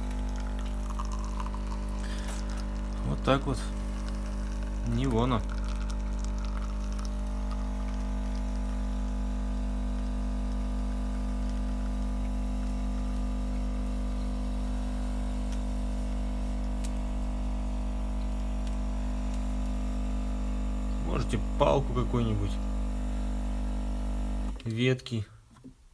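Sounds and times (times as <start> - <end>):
coffee machine humming: 0.0 - 24.6.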